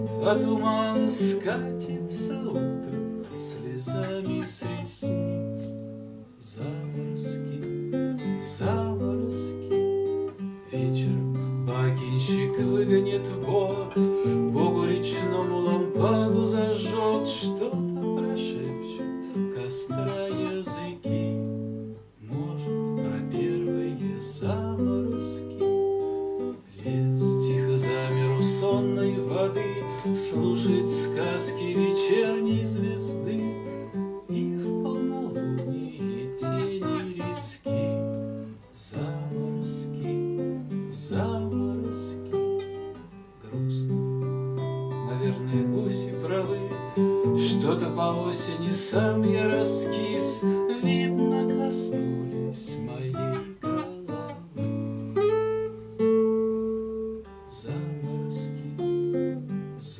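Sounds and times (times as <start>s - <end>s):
man singing: 0.0s - 25.8s, 26.6s - 44.2s, 44.9s - 55.3s, 56.5s - 59.9s
classical guitar strummed and picked: 0.0s - 59.9s.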